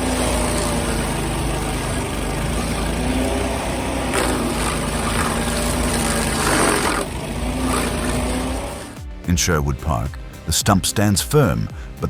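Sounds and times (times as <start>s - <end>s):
heavy machinery engine running: 0.0s - 10.5s.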